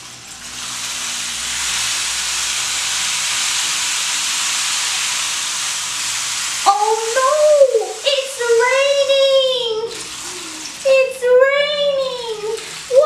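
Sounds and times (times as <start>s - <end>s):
rain stick trickling: 0.0s - 13.0s.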